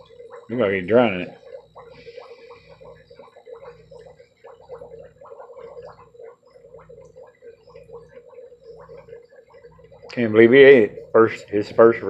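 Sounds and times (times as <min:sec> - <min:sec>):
water gurgling and bubbling: 0:00.0 - 0:12.0.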